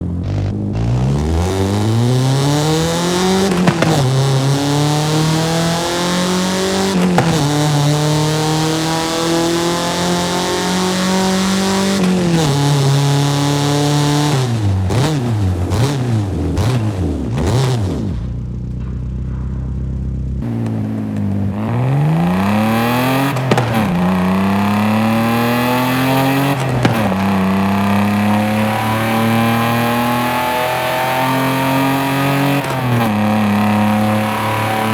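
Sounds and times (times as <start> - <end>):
car engine accelerating through gears: 0.0 - 18.7, 20.4 - 34.9
engine throttle blips: 0.0 - 34.9.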